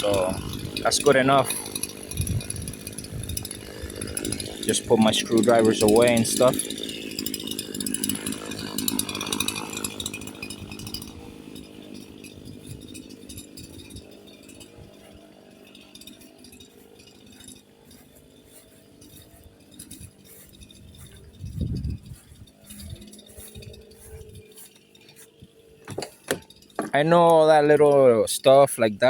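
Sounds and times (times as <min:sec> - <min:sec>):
chainsaw idling: 0:00.0 - 0:28.8
hand tools clinking: 0:02.8 - 0:28.1.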